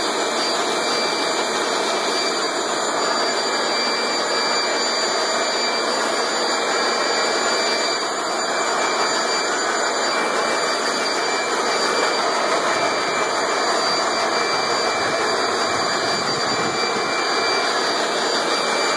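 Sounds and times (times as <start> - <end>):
leaf blower running: 0.0 - 18.9.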